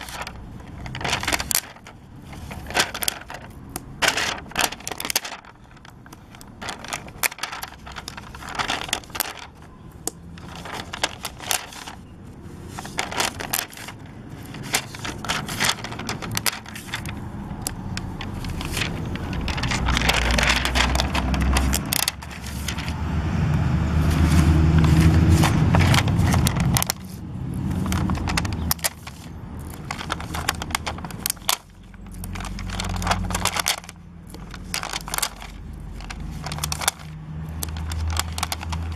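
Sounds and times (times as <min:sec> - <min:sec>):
handling clicks and crackles: 0:00.0 - 0:38.9.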